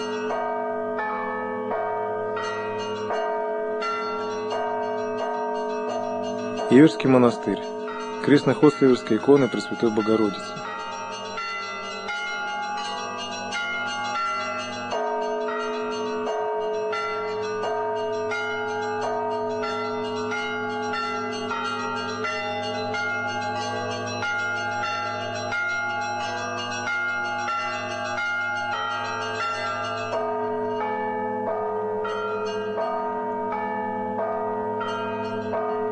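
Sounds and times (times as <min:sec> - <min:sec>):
church bells pealing: 0:00.0 - 0:35.9
deep bell hum: 0:00.0 - 0:35.9.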